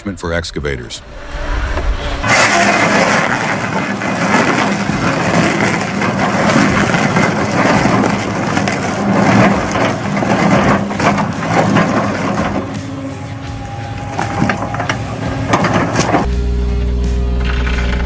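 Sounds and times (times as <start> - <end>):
excavator engine drone: 1.0 - 18.0
stump crusher grinding wood: 2.3 - 18.0.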